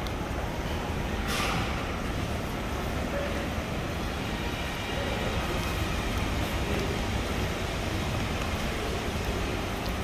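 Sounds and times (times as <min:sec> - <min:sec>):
low rumble of terminal hall: 0:00.0 - 0:10.0.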